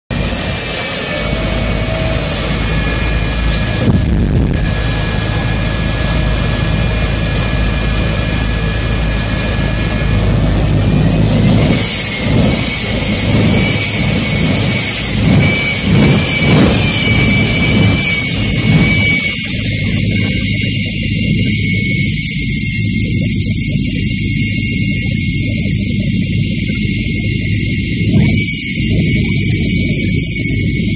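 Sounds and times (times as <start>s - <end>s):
high turbine whine: 0.1s - 30.9s
jet engine roaring: 0.1s - 30.9s.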